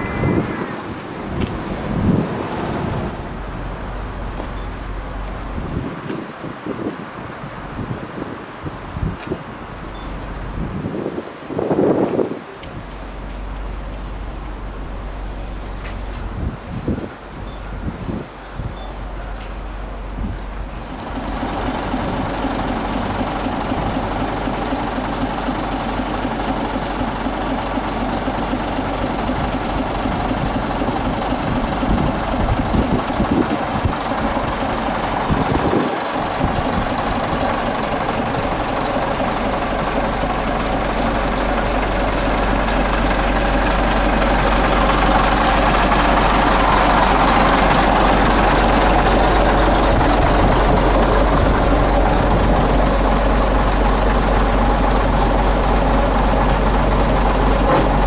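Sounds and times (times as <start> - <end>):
heavy vehicle engine idling: 0.0 - 58.0.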